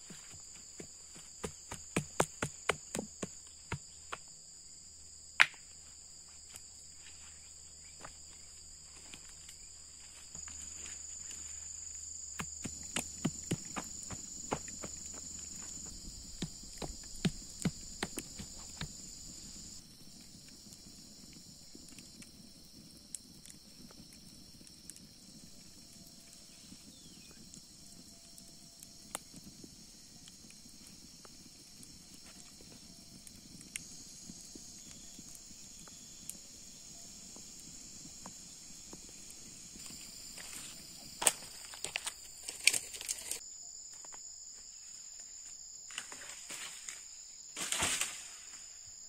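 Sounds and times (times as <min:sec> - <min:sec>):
high insect buzz: 0:00.0 - 0:22.8, 0:24.0 - 0:49.0.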